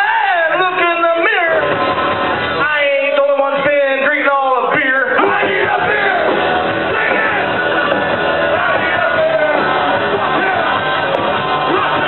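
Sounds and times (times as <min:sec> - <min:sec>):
electric guitar: 0:00.0 - 0:03.1, 0:05.1 - 0:12.0
drums: 0:00.0 - 0:12.0.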